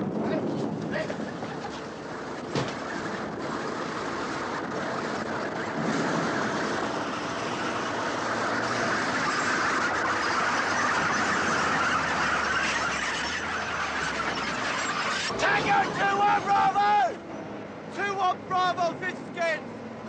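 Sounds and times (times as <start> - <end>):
military vehicles driving past: 0.0 - 20.0.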